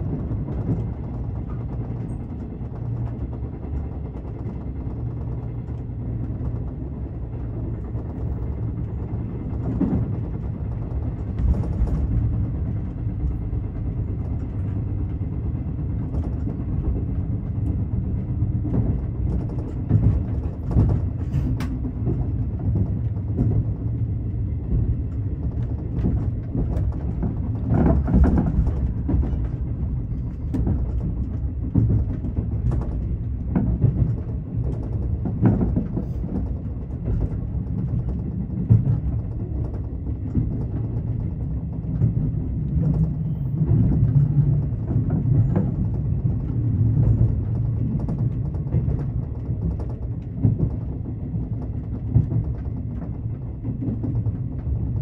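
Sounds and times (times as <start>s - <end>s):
train wheels rumbling on track: 0.0s - 55.0s
knocks and clatters: 0.1s - 15.4s, 18.6s - 55.0s.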